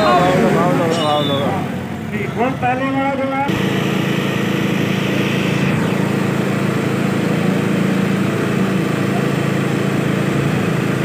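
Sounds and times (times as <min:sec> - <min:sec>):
tractor diesel engines running hard: 0:00.0 - 0:11.0.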